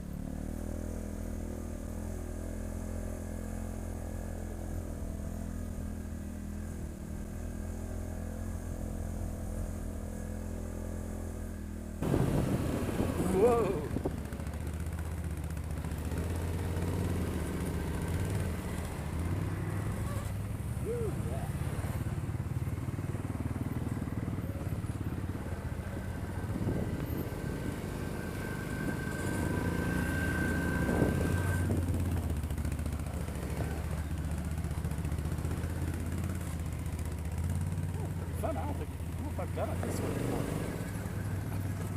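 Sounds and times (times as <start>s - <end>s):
quad bike engine at low revs: 0.0s - 41.9s.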